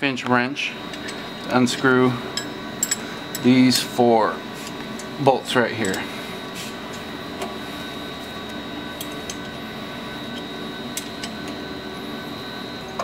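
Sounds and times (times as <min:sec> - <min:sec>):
lab equipment hum: 0:00.0 - 0:13.0.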